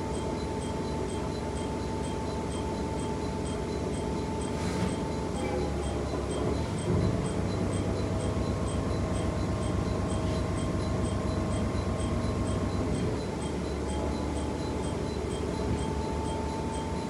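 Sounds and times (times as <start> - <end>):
diesel railcar engine hum: 0.0 - 17.0.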